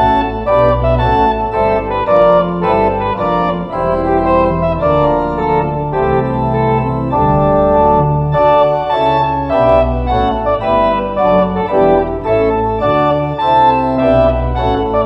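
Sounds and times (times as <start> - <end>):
church organ playing: 0.0 - 15.0.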